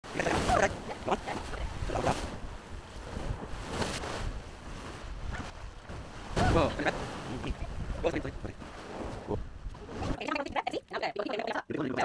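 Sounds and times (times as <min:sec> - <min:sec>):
surf washing against rocks: 0:00.0 - 0:10.6
wind buffeting microphone: 0:00.5 - 0:10.2.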